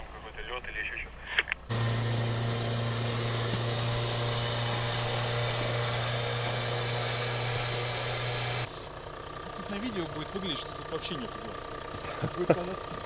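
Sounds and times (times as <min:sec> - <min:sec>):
electric winch motor humming: 0:01.7 - 0:13.0.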